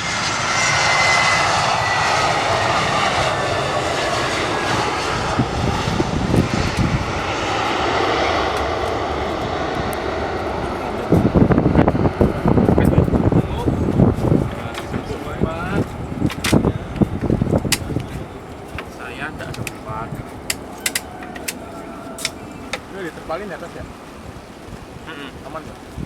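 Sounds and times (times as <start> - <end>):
jet engines roaring and whining: 0.0 - 26.0.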